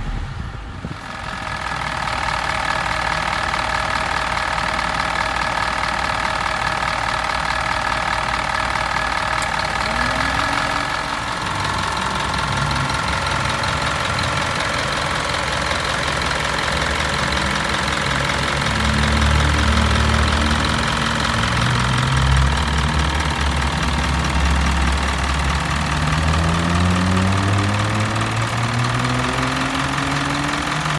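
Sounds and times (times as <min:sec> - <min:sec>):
diesel engine revving: 0:00.0 - 0:30.9.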